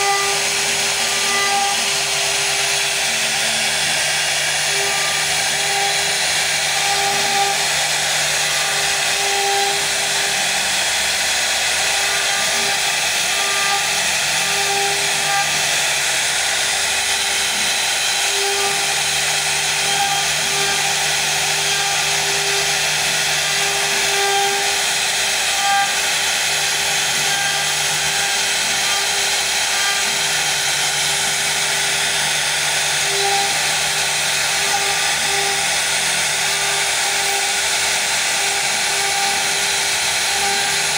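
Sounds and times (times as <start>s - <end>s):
router spindle cutting wood: 0.0s - 40.9s.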